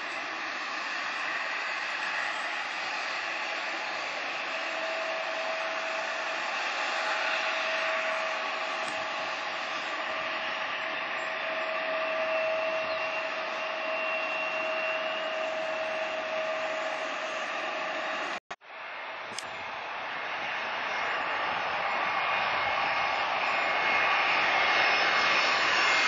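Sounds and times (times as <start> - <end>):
faint high whine: 0.0 - 26.0
jet engines whining: 0.0 - 26.0.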